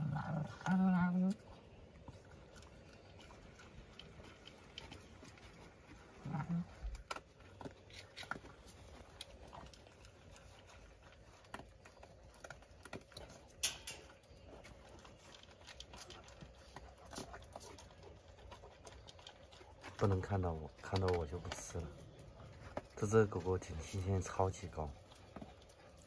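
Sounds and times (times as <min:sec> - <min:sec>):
dog crunching kibble: 0:00.0 - 0:26.0.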